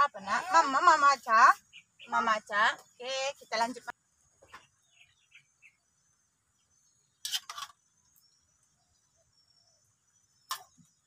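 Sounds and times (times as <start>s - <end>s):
faint high insect drone: 0.0s - 11.0s
faint bird chirps: 0.5s - 11.0s.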